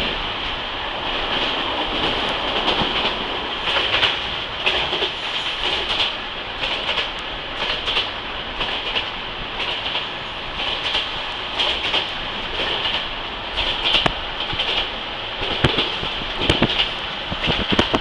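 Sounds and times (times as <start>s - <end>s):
train rolling rumble and hiss: 0.0s - 18.0s
wheels clacking over rail joints: 1.2s - 18.0s.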